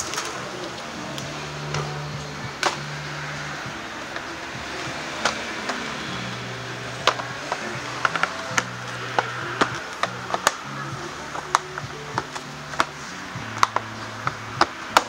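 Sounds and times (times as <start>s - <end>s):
background music with low bass: 0.0s - 15.0s.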